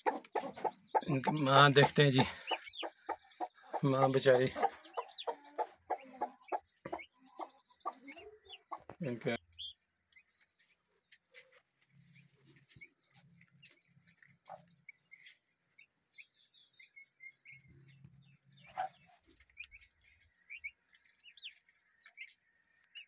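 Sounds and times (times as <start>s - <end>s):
turkey poults peeping: 0.0s - 23.0s.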